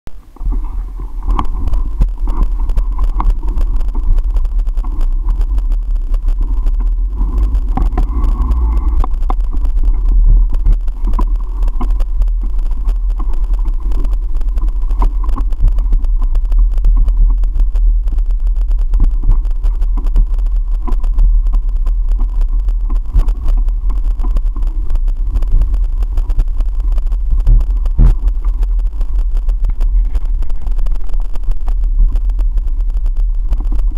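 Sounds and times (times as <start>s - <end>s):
wind rumble on microphone: 0.1s - 33.9s.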